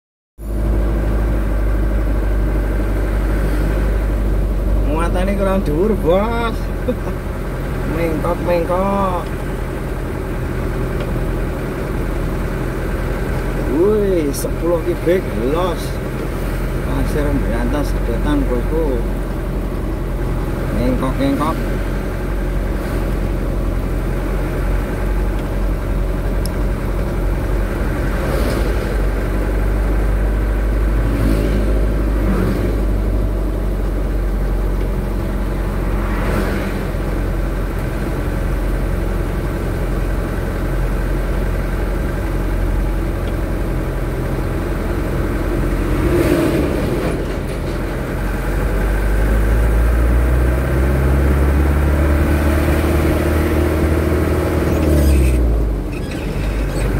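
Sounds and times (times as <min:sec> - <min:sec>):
vehicle engine and road noise: 0:00.4 - 0:56.9.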